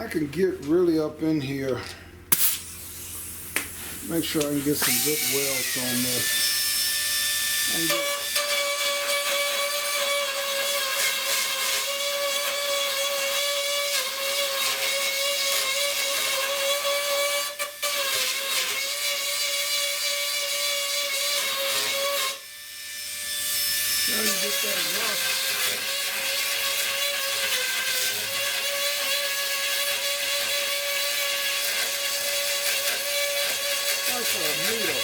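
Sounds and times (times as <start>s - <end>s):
rotary tool grinding metal: 4.0s - 35.0s.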